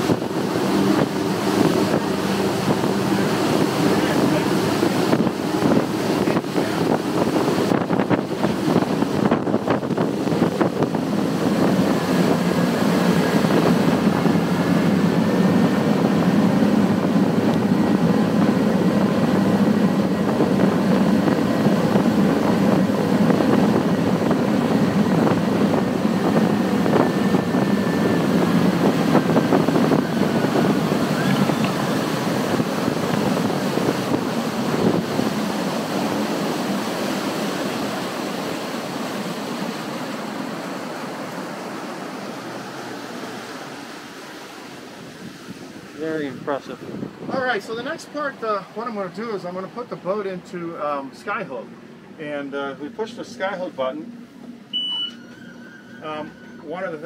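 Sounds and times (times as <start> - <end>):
rush of wake and spray: 0.0 - 54.8
outboard engines droning: 0.0 - 57.0.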